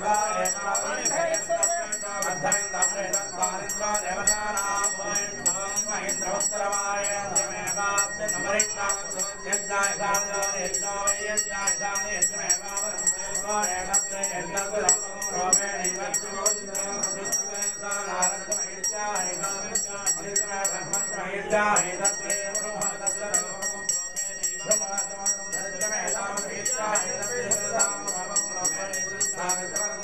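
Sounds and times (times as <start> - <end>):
group chanting: 0.0 - 30.0
hand bell ringing: 0.0 - 30.0.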